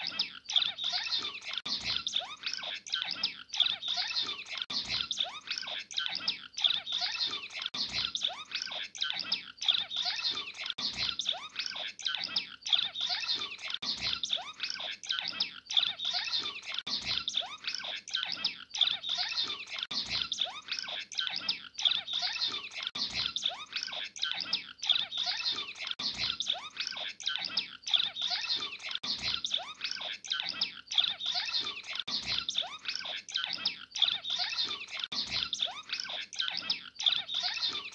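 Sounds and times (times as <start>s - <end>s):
finch singing: 0.0s - 37.9s.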